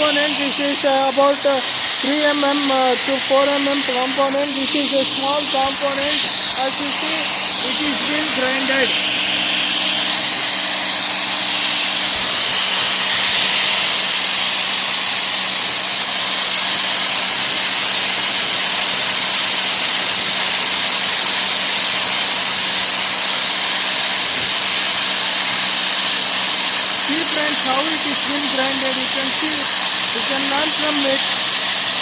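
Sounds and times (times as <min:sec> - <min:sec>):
power grinder grinding metal: 0:00.0 - 0:32.0.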